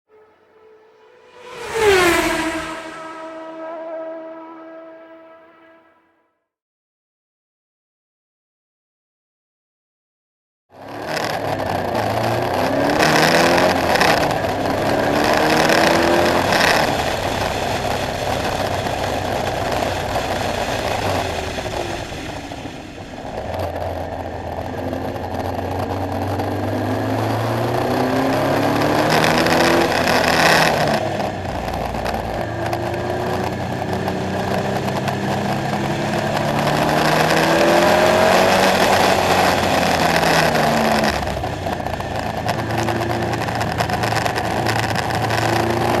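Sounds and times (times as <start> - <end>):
car engine revving hard: 0.1 - 6.1, 11.1 - 46.0.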